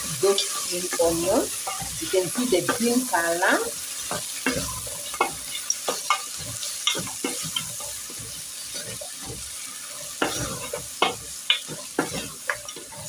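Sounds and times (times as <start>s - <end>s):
meat sizzling in a pan: 0.0s - 13.0s
utensil scraping a pan: 0.2s - 3.3s, 4.0s - 13.0s.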